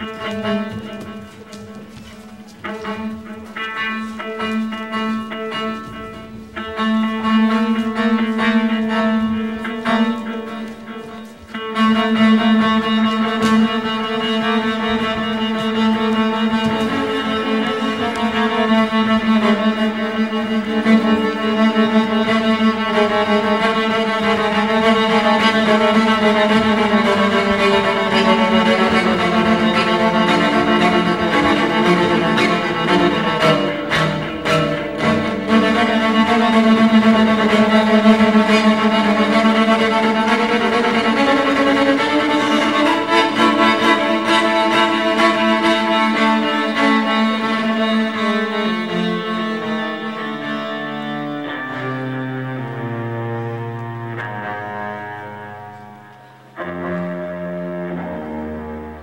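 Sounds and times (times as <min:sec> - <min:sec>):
slow music of sustained notes: 0:00.0 - 0:59.0.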